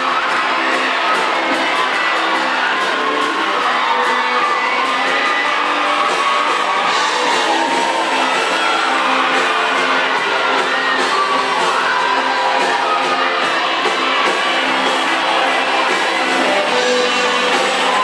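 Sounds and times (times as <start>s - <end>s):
crowd whooping: 0.0s - 18.0s
live band with guitar and singing: 0.0s - 18.0s.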